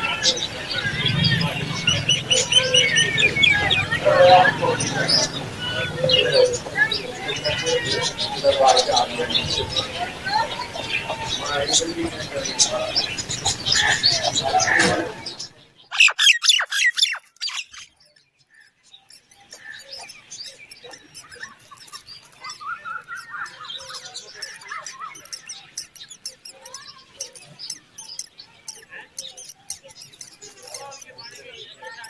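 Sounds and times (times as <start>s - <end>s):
faint chirps and squeaks: 0.0s - 32.0s.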